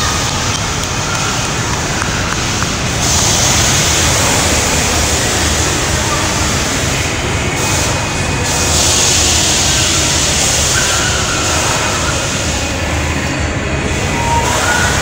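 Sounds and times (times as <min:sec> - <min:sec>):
amusement rides rumbling: 0:00.0 - 0:15.0.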